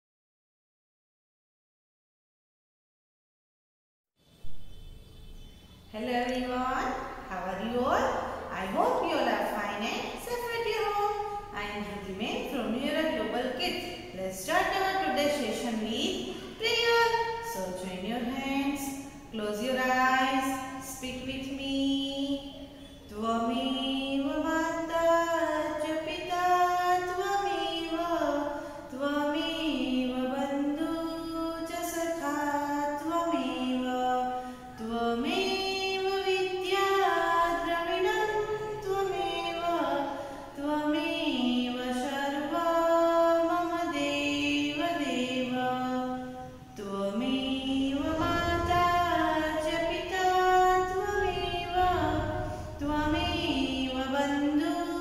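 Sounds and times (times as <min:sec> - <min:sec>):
woman singing unaccompanied: 0:05.9 - 0:55.0.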